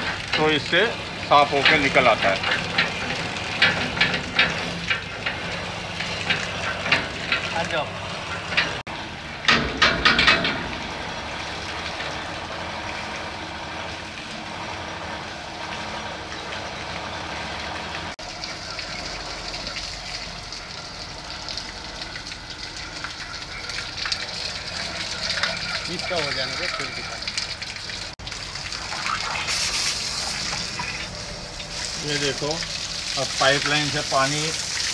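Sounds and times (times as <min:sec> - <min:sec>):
water pouring and splashing: 0:00.0 - 0:34.9.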